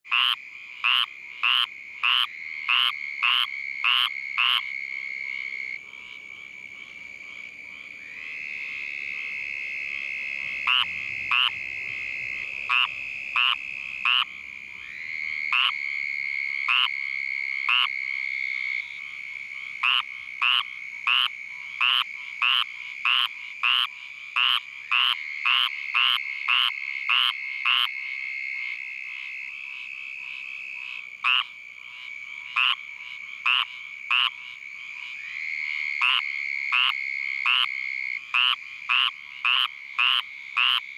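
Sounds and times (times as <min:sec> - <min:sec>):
treefrog calling raspy notes: 0:00.1 - 0:40.9.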